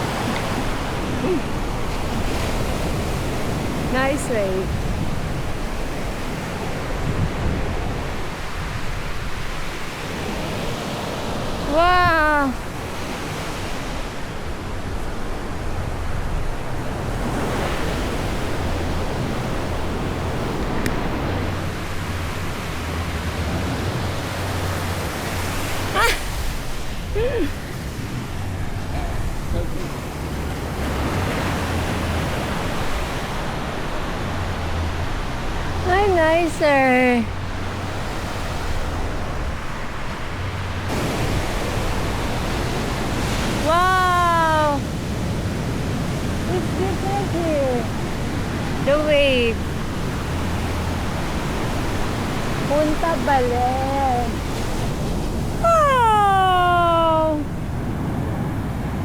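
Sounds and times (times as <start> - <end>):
wind buffeting microphone: 0.0 - 56.4
waves breaking on beach: 0.0 - 59.0.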